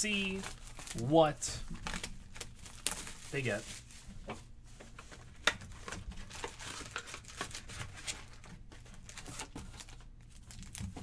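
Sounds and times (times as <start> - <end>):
foil packs crinkling: 0.1 - 4.1, 5.1 - 11.0.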